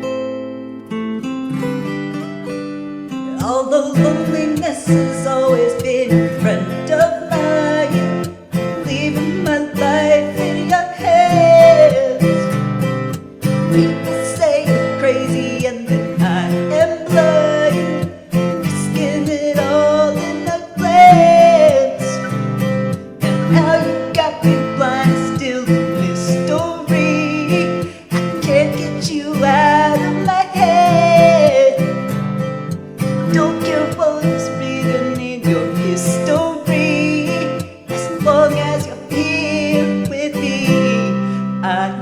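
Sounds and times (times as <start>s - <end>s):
karaoke backing track with guitar: 0.0s - 42.0s
man singing pop ballad: 3.3s - 12.8s, 13.4s - 32.3s, 33.0s - 42.0s.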